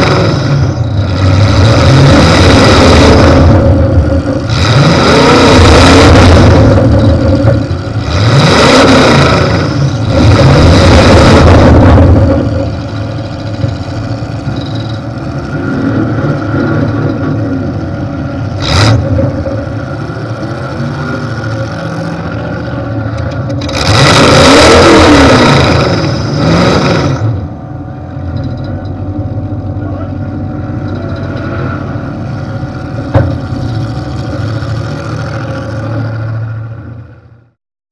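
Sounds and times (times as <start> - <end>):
car engine running and revving: 0.0 - 37.6.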